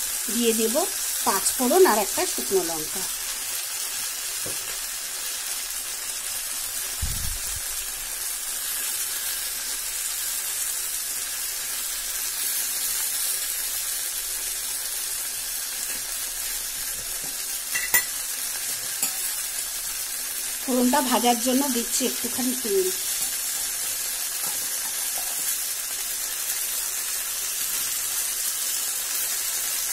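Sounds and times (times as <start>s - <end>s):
eggplant sizzling in oil: 0.0s - 29.9s.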